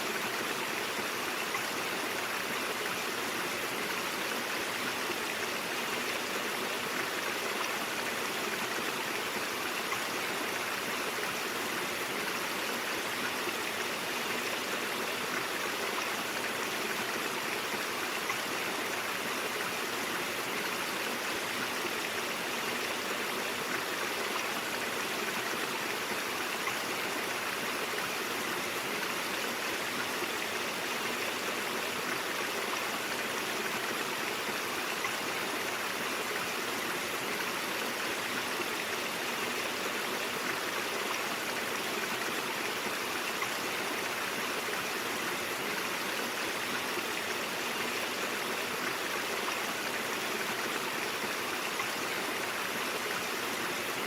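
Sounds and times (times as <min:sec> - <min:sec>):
brook water flowing: 0:00.0 - 0:54.0.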